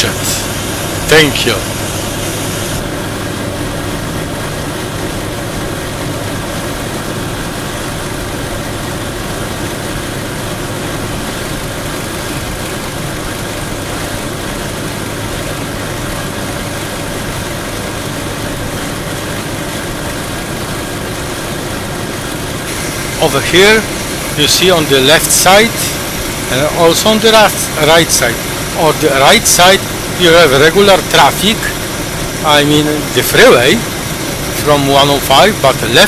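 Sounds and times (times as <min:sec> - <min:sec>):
car road and engine noise: 0:00.0 - 0:36.0.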